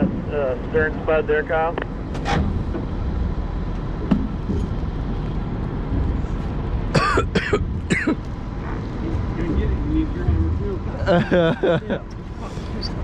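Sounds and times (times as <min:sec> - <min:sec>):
heavy machinery engine rumble: 0:00.0 - 0:13.0.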